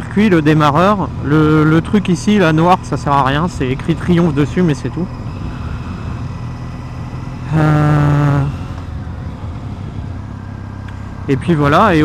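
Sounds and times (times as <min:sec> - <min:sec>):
motorcycle engine and road noise: 0:00.0 - 0:12.0.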